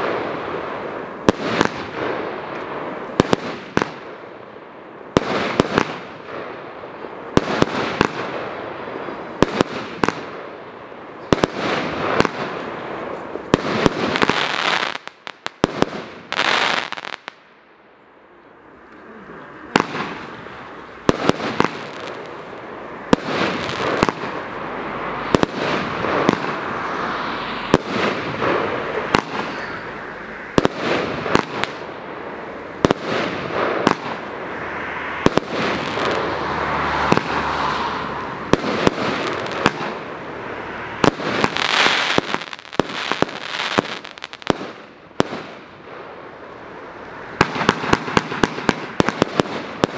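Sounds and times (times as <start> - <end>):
fireworks bangs: 0.0 - 17.6, 19.2 - 49.9.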